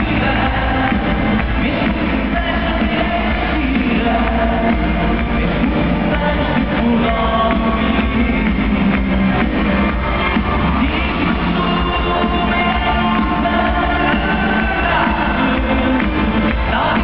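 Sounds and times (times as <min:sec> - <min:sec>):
man singing into a microphone: 0:00.0 - 0:09.8, 0:10.6 - 0:17.0
live band playing loud: 0:00.0 - 0:17.0.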